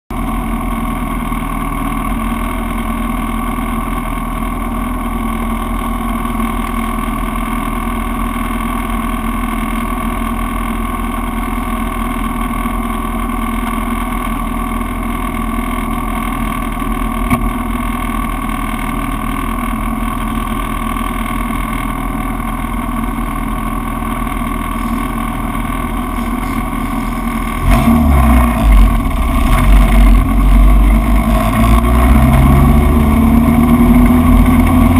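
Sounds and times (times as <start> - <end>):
race car engine running: 0.1 - 34.9.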